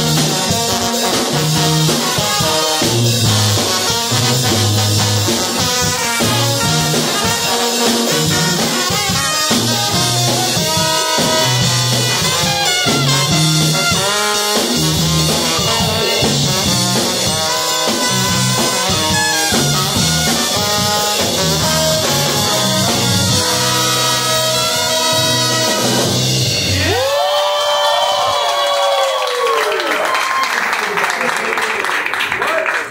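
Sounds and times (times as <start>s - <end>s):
brass band playing: 0.0s - 27.3s.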